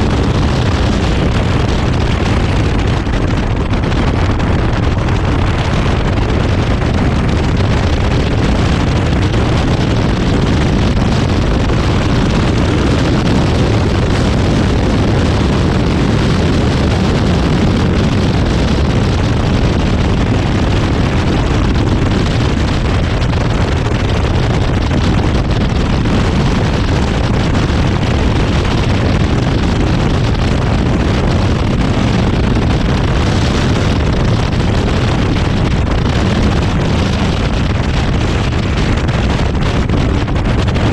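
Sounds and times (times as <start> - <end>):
car engine running hard: 0.0 - 40.9
wind rush over microphone: 0.0 - 40.9.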